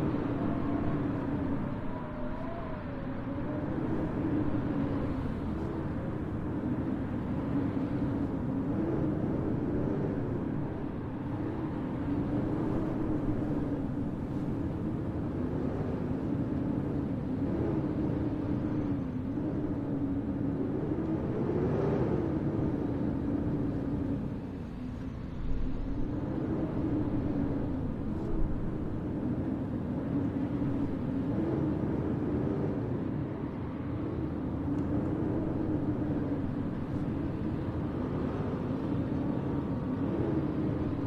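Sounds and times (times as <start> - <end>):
howling blizzard wind: 0.0 - 41.0.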